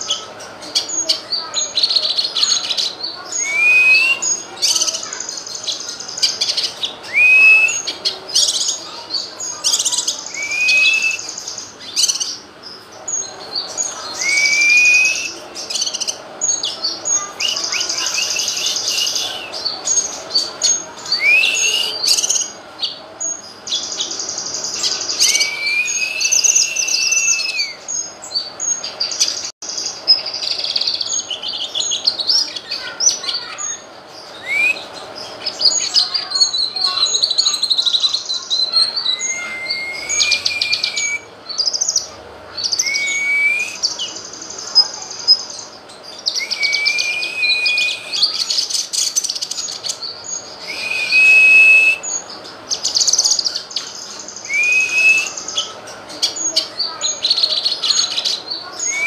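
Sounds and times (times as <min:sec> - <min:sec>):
bird singing whistled notes and trills: 0:00.0 - 0:59.0.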